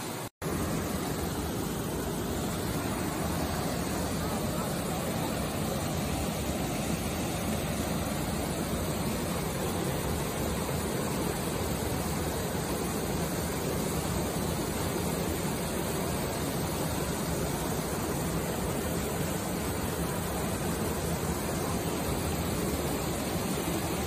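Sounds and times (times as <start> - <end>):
waterfall rushing through rocks: 0.0 - 24.0.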